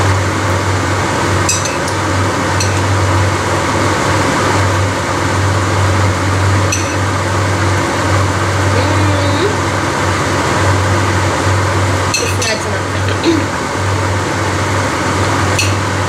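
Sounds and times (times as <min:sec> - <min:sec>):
broth boiling and bubbling: 0:00.0 - 0:16.0
constant low hum: 0:00.0 - 0:16.0.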